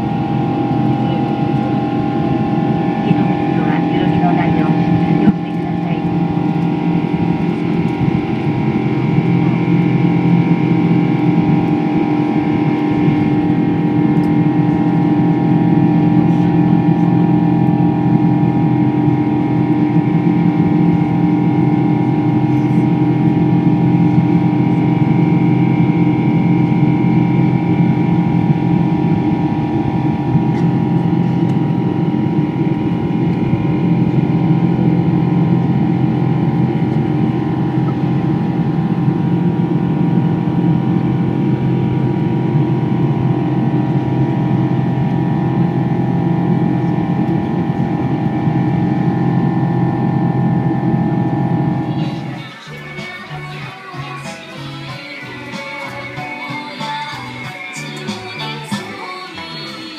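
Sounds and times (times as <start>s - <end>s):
jet engines droning in cabin: 0.0s - 59.9s.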